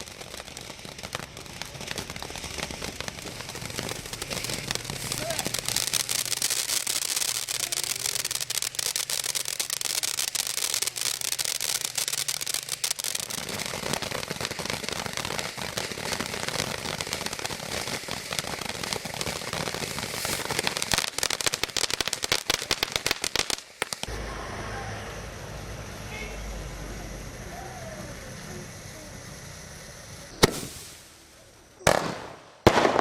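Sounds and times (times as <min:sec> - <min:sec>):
firework crackling and popping: 0:00.0 - 0:33.0
firework hiss: 0:00.0 - 0:33.0.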